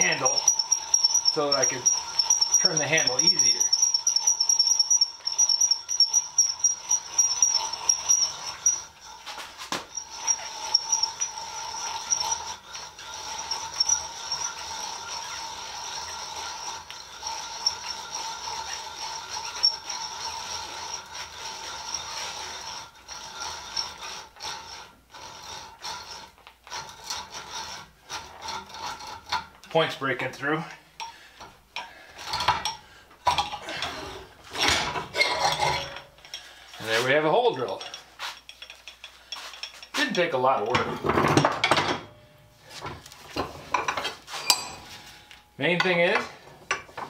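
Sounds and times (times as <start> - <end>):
hand drill whirring and clicking: 0.0 - 29.8, 31.0 - 41.1.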